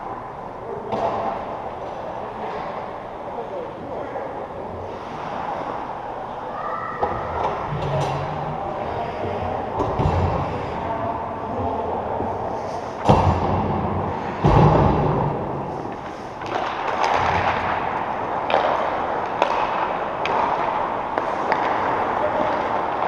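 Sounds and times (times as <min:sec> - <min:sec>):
hubbub of play: 0:00.0 - 0:23.0.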